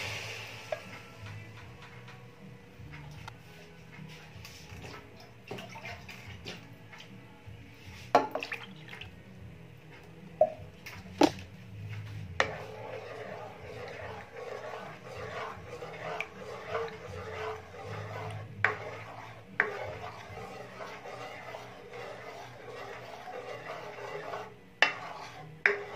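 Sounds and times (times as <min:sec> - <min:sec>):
liquid swishing while stirred: 0:03.0 - 0:07.1, 0:07.7 - 0:09.2, 0:10.4 - 0:25.9.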